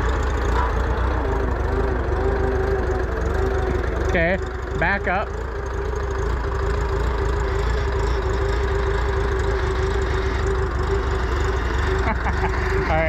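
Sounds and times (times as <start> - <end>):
skid steer engine running: 0.0 - 13.0
steady tone: 0.0 - 13.0.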